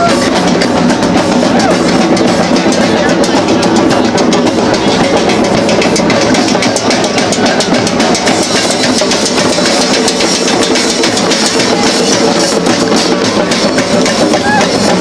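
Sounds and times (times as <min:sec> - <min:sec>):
drums and percussion playing: 0:00.0 - 0:15.0.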